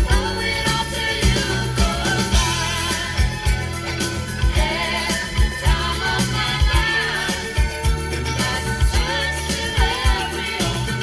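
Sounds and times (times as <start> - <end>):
heavy kick drum beat: 0.0 - 11.0
pop music from car stereo: 0.0 - 11.0
sustained synth tones: 0.0 - 11.0.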